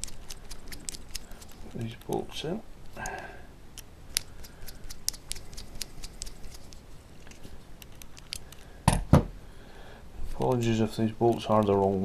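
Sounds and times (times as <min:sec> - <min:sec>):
metallic clicks and ticks: 0:00.0 - 0:02.4, 0:03.0 - 0:08.7, 0:10.4 - 0:12.0.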